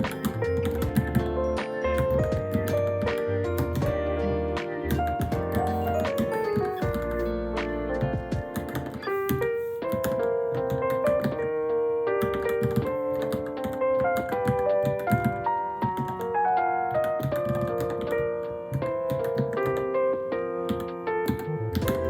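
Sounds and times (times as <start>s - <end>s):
mechanical keyboard typing: 0.0s - 4.0s, 4.9s - 7.3s, 8.0s - 11.4s, 12.2s - 20.0s, 20.7s - 22.0s
piano music: 0.0s - 22.0s.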